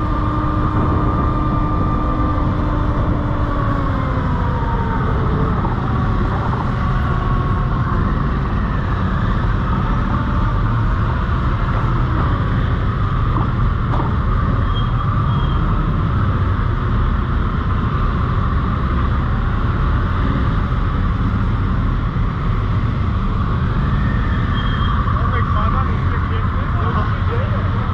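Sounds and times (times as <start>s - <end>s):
wind and motorcycle road noise: 0.0s - 27.9s.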